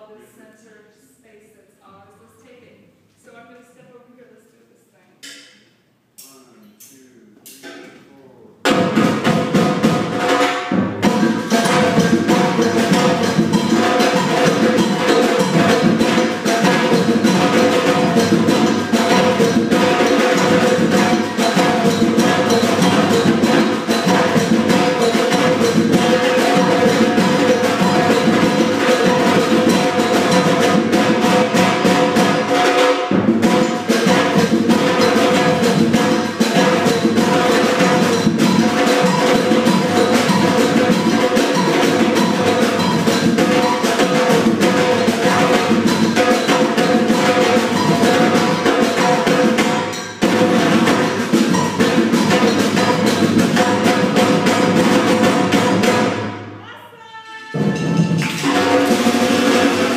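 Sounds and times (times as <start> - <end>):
sharp wood-block-like strikes: 5.2 - 6.4, 7.5 - 7.9, 8.6 - 56.4, 57.5 - 59.9
drum ensemble playing: 7.5 - 59.9.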